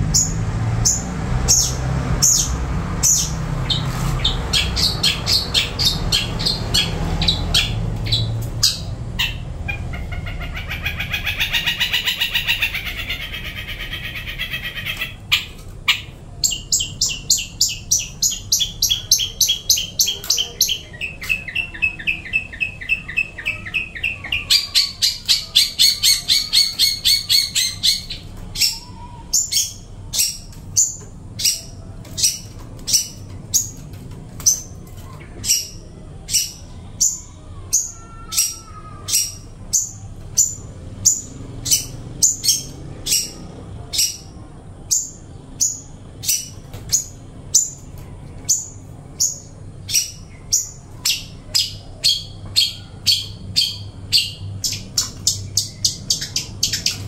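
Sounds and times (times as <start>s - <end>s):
songbird chirping and warbling: 0.0s - 57.0s.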